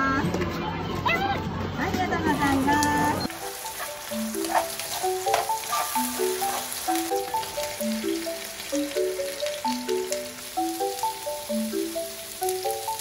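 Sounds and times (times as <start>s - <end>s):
light background music: 0.0s - 13.0s
food sizzling in a frying pan: 2.4s - 13.0s.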